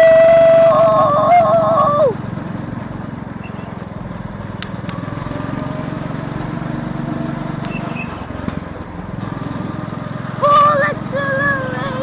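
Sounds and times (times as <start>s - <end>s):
go-kart engine running: 0.0s - 12.0s.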